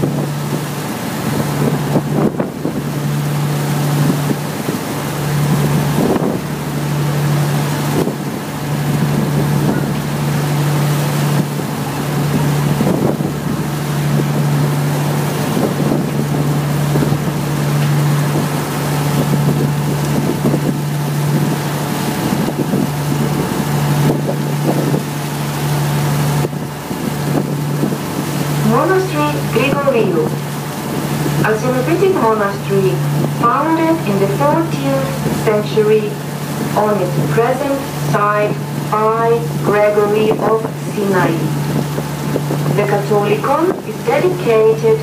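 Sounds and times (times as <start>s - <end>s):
boat engine humming: 0.0s - 45.0s
wind gusting on microphone: 0.0s - 45.0s.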